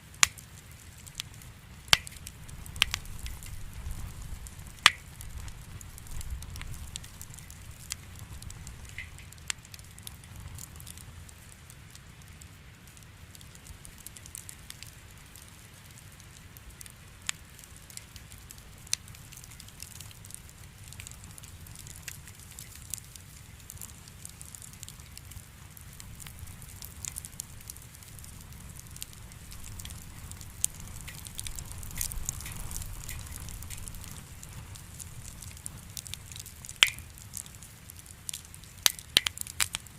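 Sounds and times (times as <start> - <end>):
firewood crackling and popping: 0.0 - 39.9
rumble of flame: 0.0 - 39.9.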